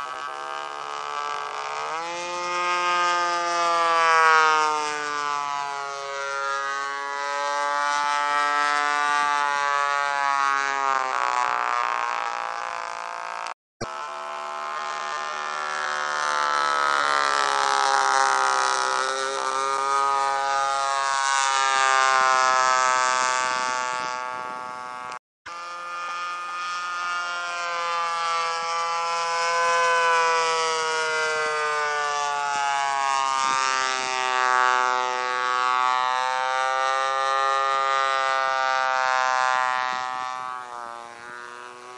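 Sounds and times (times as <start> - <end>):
model airplane engine droning: 0.0 - 41.9.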